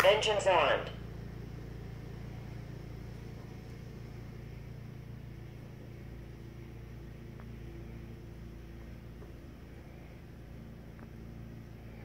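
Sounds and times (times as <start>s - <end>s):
lawnmower engine running: 0.0s - 12.0s.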